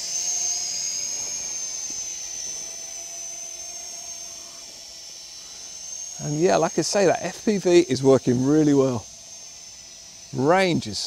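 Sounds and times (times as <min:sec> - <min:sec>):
drone propeller whine: 0:00.0 - 0:11.0.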